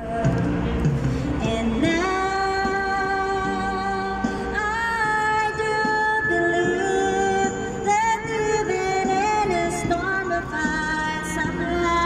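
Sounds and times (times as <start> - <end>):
song accompaniment: 0.0 - 12.0.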